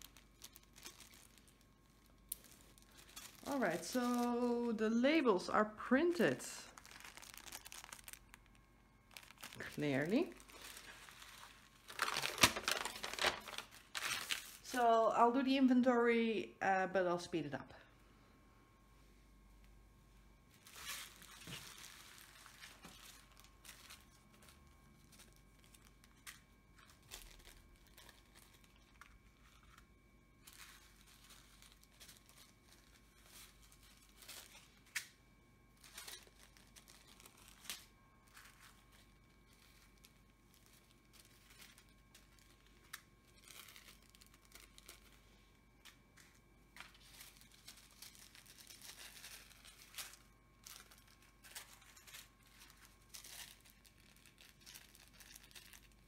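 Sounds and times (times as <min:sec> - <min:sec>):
plastic bags crinkling: 0:00.0 - 0:15.0, 0:20.3 - 0:56.0.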